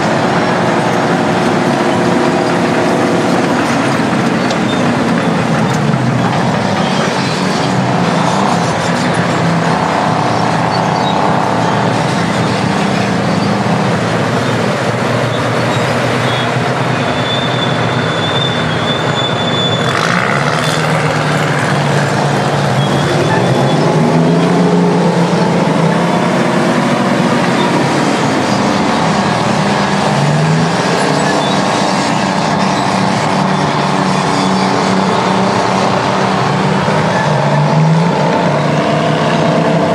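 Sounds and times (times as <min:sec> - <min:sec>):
diesel bulldozer engines working: 0:00.0 - 0:39.9.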